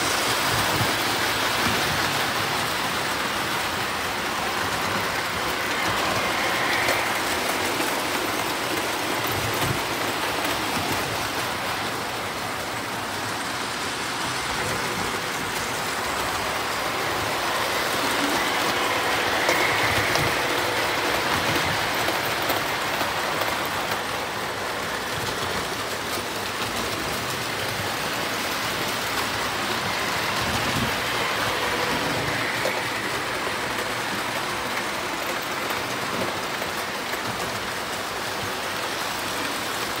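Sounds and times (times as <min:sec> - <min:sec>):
model trains clattering on track: 0:00.0 - 0:40.0
clicking from rails: 0:00.1 - 0:40.0.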